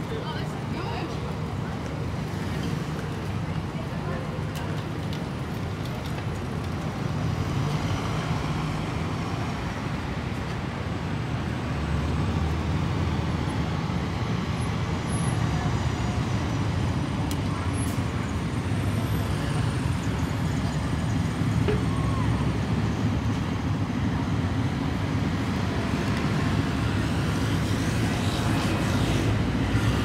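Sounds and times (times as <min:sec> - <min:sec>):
bus approaching: 0:00.0 - 0:30.0
city traffic rumble: 0:00.0 - 0:30.0.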